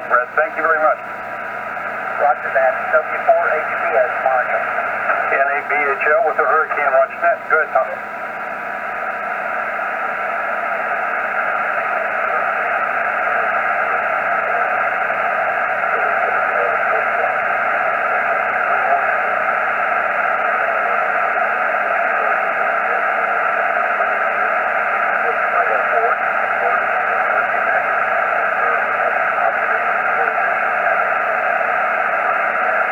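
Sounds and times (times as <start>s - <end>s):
radio receiver hiss: 0.0s - 32.9s.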